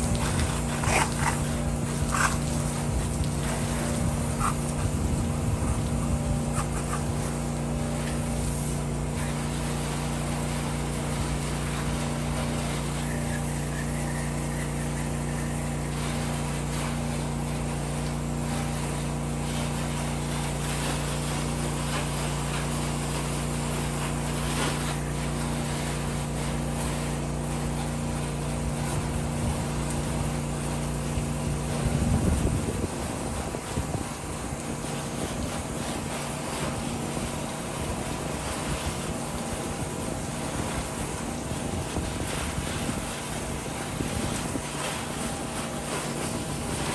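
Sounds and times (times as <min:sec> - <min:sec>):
pressure washer engine humming: 0:00.0 - 0:46.9.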